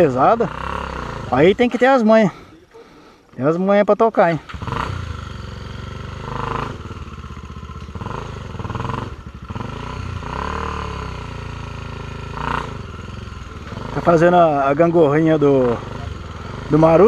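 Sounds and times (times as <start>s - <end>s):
motorcycle engine revving: 0.0s - 2.6s, 3.4s - 17.0s.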